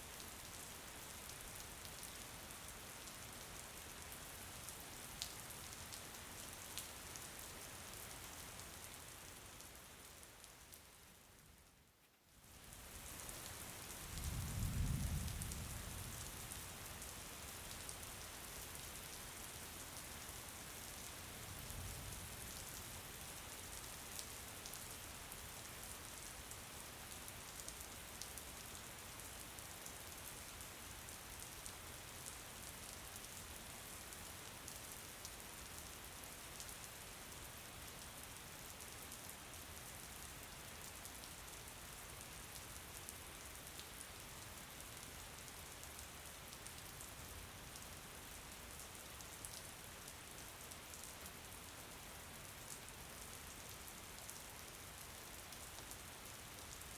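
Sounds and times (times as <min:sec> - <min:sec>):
faint rain hissing: 0:00.0 - 0:56.9.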